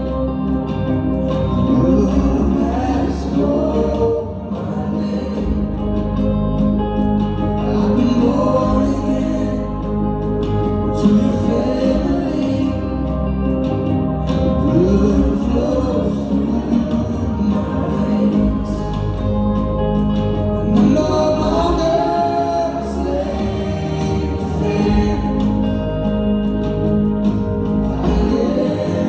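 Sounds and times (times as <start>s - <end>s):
band playing slow song: 0.0s - 29.0s
person singing: 1.2s - 6.3s, 7.4s - 19.5s, 20.5s - 26.9s, 27.6s - 29.0s.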